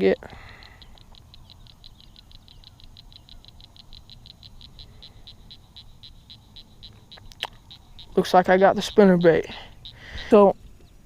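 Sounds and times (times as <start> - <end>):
spinning wheel ticking: 0.0 - 10.0.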